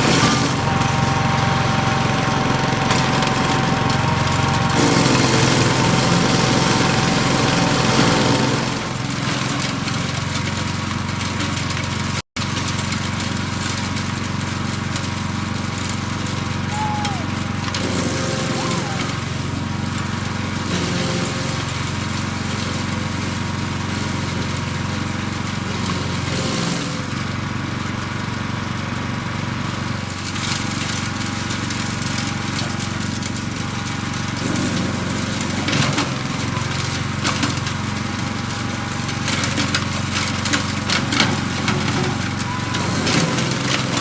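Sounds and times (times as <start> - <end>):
wood chipper running: 0.0 - 44.0.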